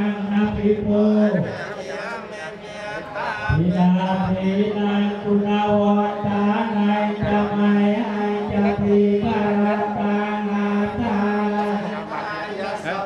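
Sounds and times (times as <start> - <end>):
many voices chanting: 1.3 - 13.0.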